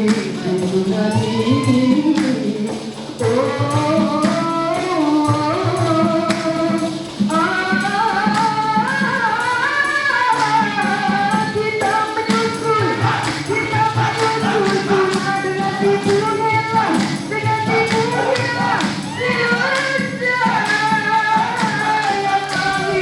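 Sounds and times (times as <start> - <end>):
percussion beat: 0.0 - 23.0
vocal group singing in harmony: 0.0 - 23.0.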